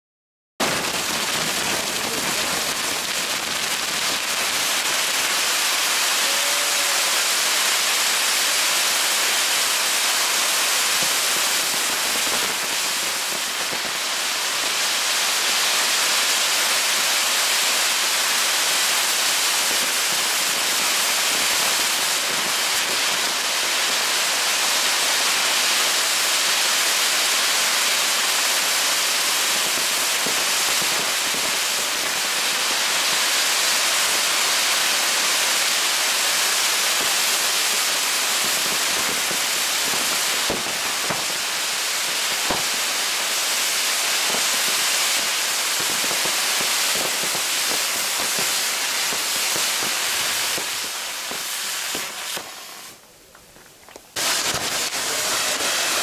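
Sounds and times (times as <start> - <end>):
firework wheel hissing: 0.6 - 53.1, 54.1 - 56.0
firework cracks: 0.6 - 56.0.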